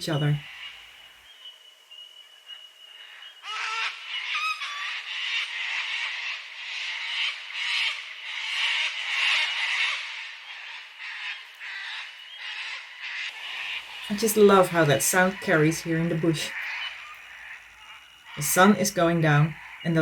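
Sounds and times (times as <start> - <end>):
cockatoos screeching: 3.0 - 20.0.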